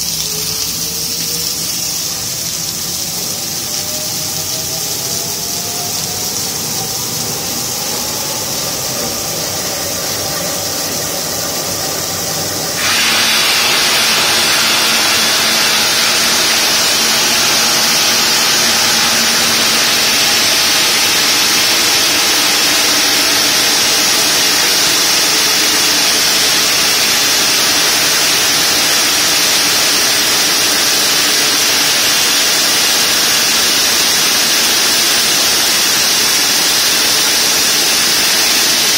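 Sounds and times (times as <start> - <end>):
water-cooling spray: 0.0 - 38.9.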